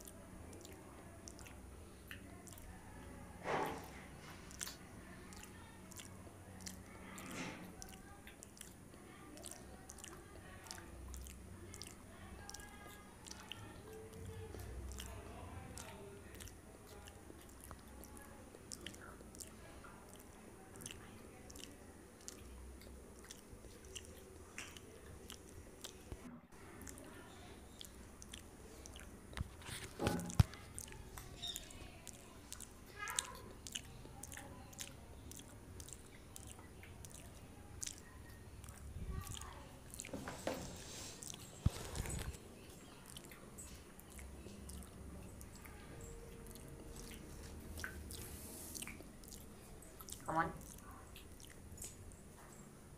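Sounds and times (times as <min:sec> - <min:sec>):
person chewing bread: 0:00.0 - 0:52.9.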